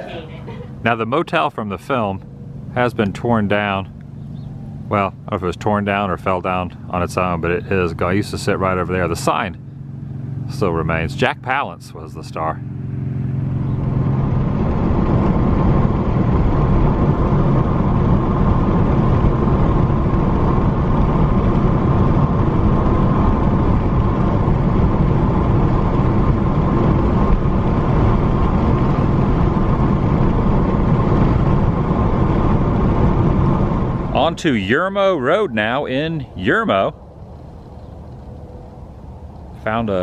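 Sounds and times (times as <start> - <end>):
car road and engine noise: 0.0 - 40.0.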